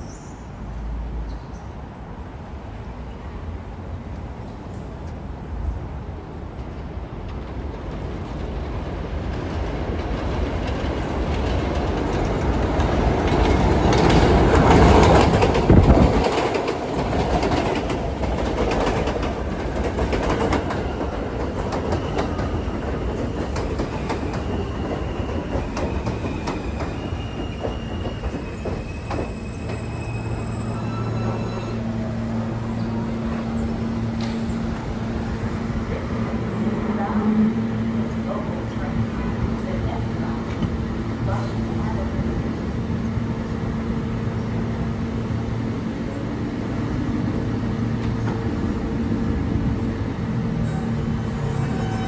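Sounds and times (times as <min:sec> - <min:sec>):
subway train rumble and wheel clatter: 0:00.0 - 0:52.0.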